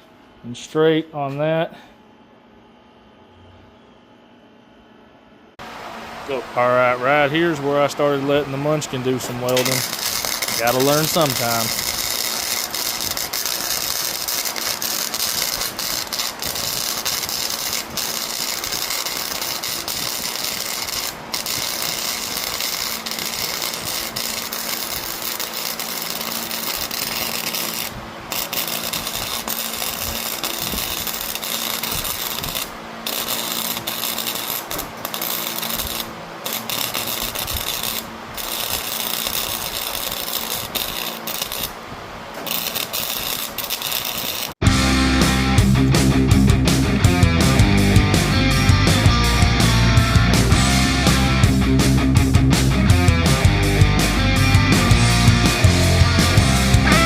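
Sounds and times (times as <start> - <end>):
welding arc crackling and hissing: 6.3 - 44.6, 47.2 - 57.0.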